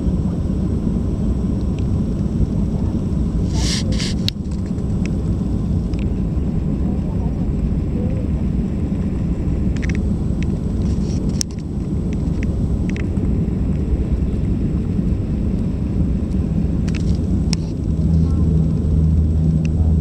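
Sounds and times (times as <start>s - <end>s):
jet engines and wheels rumbling: 0.0s - 20.0s.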